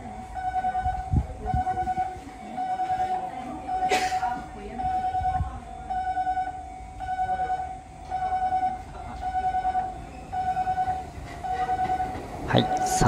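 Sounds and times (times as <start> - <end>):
level crossing warning bell: 0.0 - 13.0.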